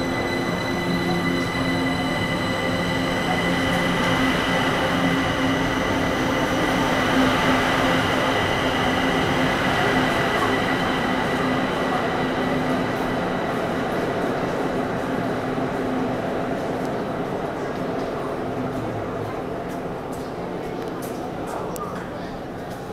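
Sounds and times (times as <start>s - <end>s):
train wheels rumbling on rail: 0.0s - 22.9s.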